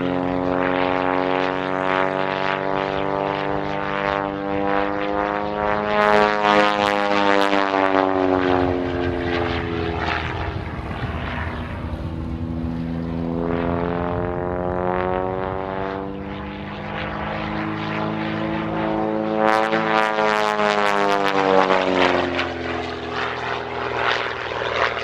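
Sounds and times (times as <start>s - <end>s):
biplane engine and propeller droning: 0.0s - 25.0s.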